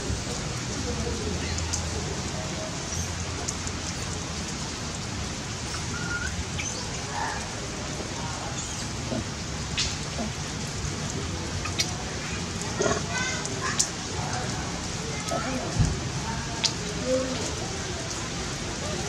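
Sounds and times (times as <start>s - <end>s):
background noise hiss: 0.0s - 19.0s.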